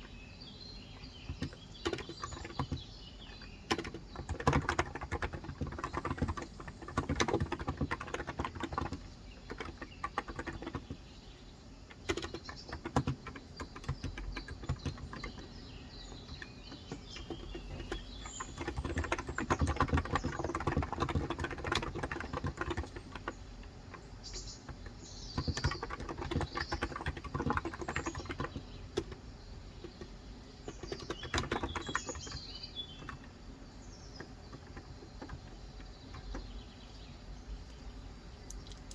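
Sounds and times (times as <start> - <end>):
birds chirping: 0.0 - 38.9
typing on a keyboard: 0.9 - 11.2, 11.9 - 33.4, 34.1 - 36.6.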